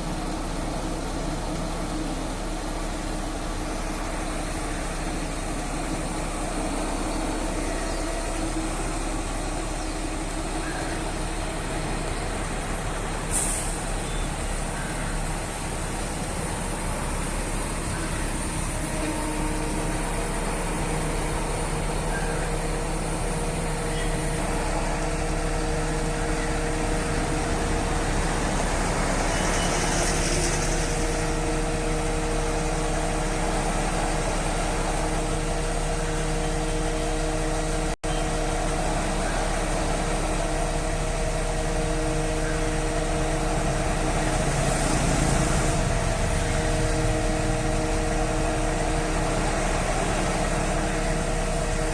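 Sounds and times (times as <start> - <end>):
crane engine running steadily: 0.0 - 51.9.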